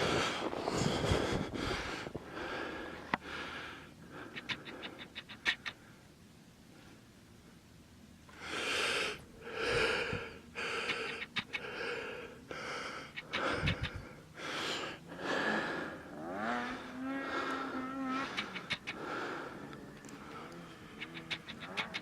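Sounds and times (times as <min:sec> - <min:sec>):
person breathing heavily: 0:00.0 - 0:06.0, 0:08.3 - 0:22.0.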